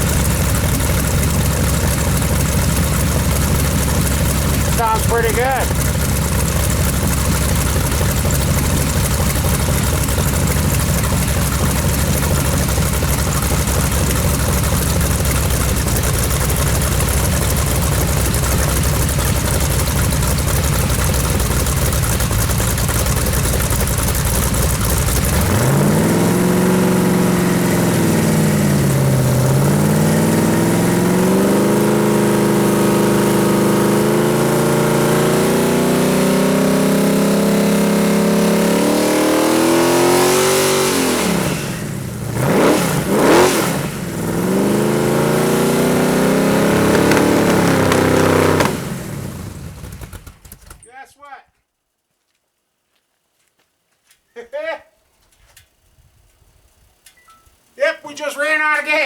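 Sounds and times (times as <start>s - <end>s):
engine idling and revving: 0.0s - 50.8s.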